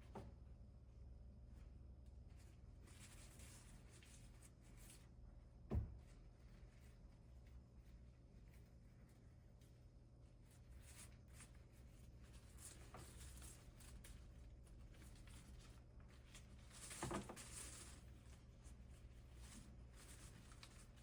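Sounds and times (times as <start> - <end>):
faint rustling and handling noises: 0.0 - 21.0.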